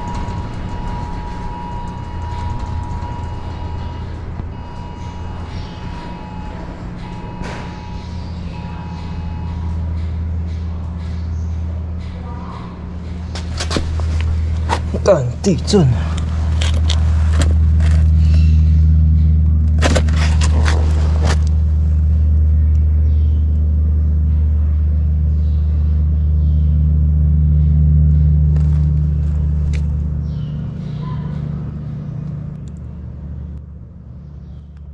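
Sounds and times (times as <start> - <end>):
deep ground rumble: 0.0 - 34.9.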